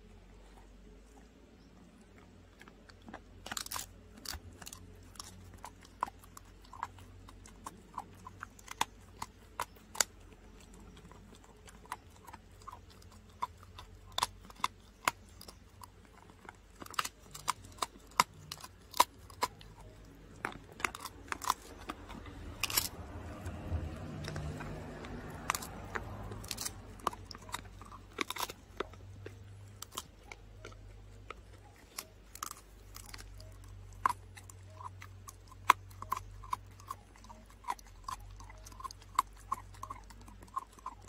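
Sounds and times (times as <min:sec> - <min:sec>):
dog chewing crunches: 0:00.0 - 0:41.0.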